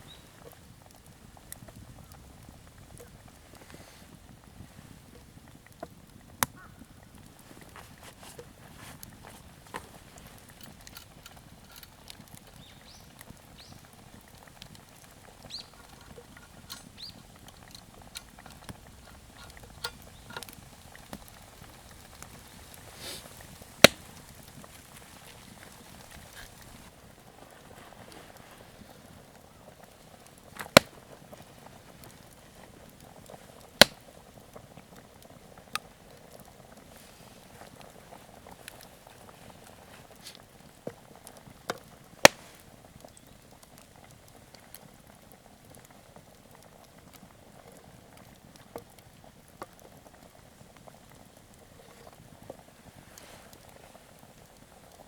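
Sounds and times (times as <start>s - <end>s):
burning wood popping: 0.0s - 55.0s
pot bubbling hiss: 0.0s - 55.0s.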